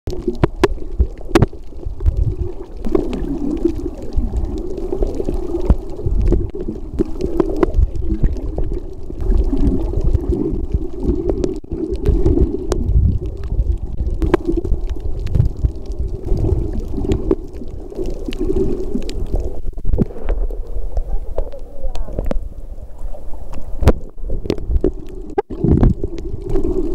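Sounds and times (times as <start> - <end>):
underwater water rumble and gurgle: 0.1 - 26.9.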